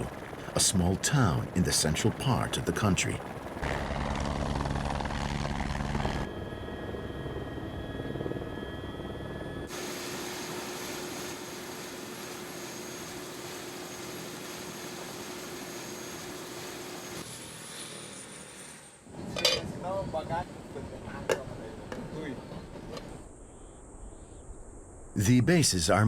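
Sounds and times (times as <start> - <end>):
helicopter running: 0.0 - 23.2.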